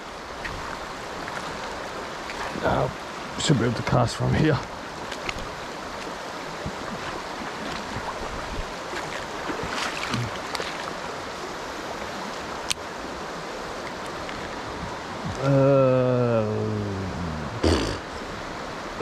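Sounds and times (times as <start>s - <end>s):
river water running over stones: 0.0s - 19.0s.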